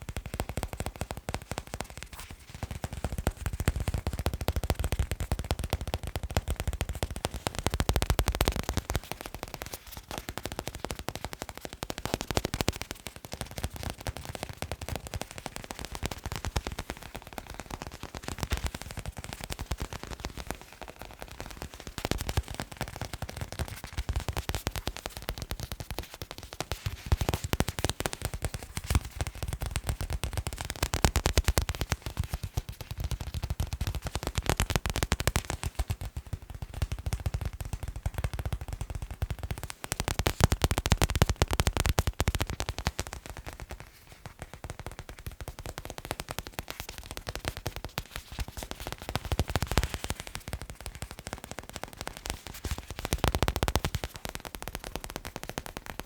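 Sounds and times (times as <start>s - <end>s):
fast sharp tapping on objects: 0.0s - 56.0s.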